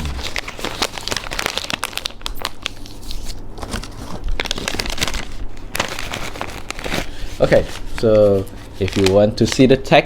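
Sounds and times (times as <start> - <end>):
plastic snack packet crinkling: 0.0 - 10.0.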